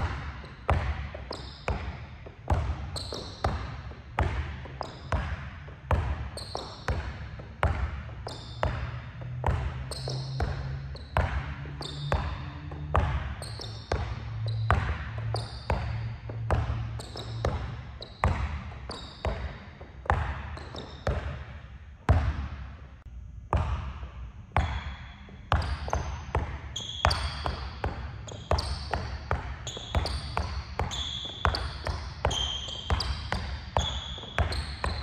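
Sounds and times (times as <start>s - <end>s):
basketball bouncing on gym floor: 0.0s - 22.8s, 23.5s - 35.0s.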